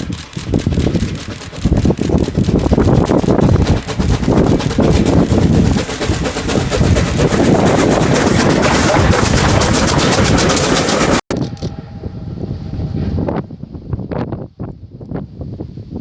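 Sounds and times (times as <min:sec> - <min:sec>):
steam locomotive exhaust beats: 0:00.0 - 0:16.0
wind noise: 0:00.0 - 0:16.0.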